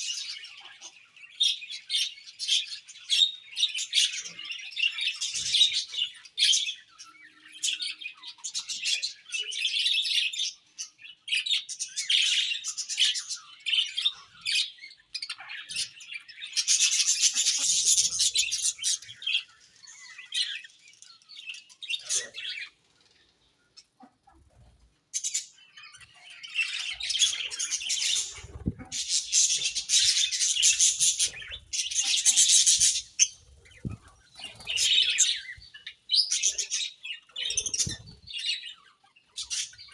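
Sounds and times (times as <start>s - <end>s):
budgerigars chirping: 0.0s - 22.8s, 25.2s - 39.9s.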